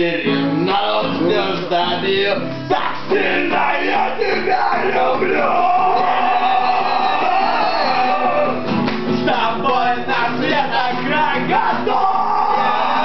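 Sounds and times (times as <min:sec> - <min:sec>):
men singing loudly: 0:00.0 - 0:08.6, 0:09.2 - 0:13.0
strummed guitar: 0:00.0 - 0:13.0.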